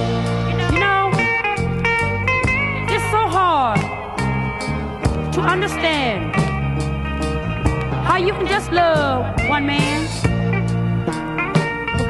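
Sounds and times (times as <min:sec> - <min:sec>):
bass: 0:00.0 - 0:12.0
held guitar notes: 0:00.0 - 0:12.0.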